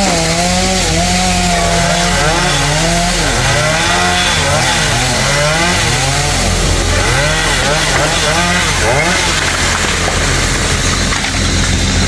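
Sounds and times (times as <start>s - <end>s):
chainsaw cutting into tree: 0.0s - 12.0s.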